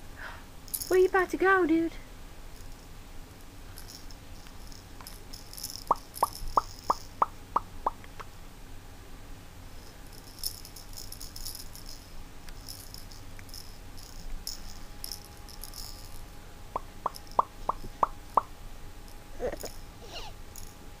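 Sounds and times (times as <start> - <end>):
light high-pitched rattling and clicking: 0.7 - 1.3, 2.6 - 8.3, 9.8 - 20.8.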